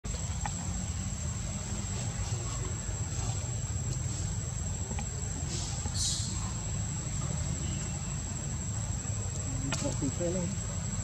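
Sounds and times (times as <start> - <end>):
insects droning high-pitched: 0.1 - 11.0.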